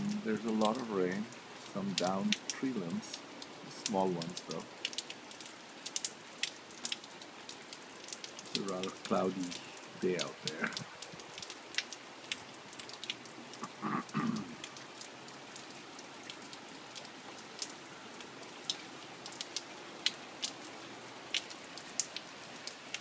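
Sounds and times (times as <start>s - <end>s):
drips ticking close by: 0.0s - 23.0s
steady rain falling: 0.0s - 23.0s.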